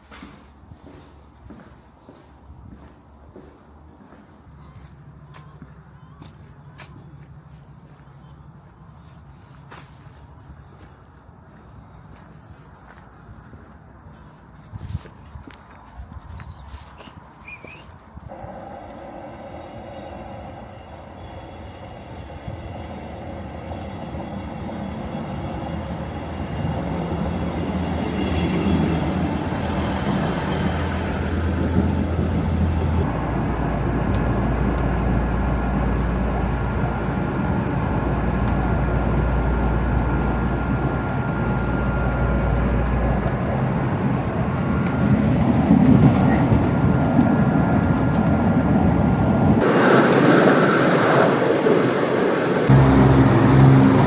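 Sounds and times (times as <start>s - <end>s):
train rumble and engine hum: 0.0s - 54.0s.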